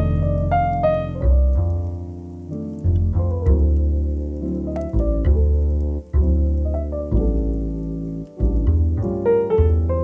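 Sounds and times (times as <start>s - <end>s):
calm piano music: 0.0s - 10.0s.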